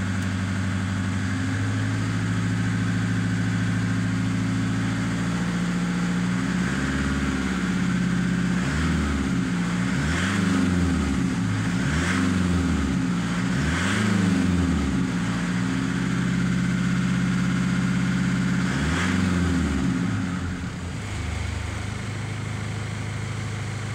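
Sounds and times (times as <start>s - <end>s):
diesel engine revving: 0.0s - 23.9s.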